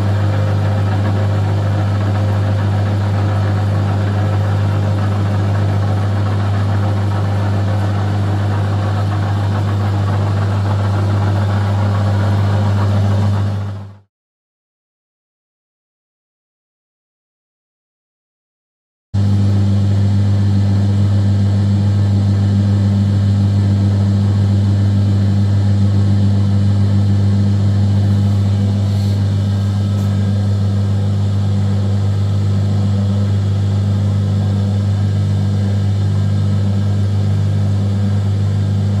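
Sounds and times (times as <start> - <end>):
lathe motor humming: 0.0 - 14.0, 19.2 - 39.0.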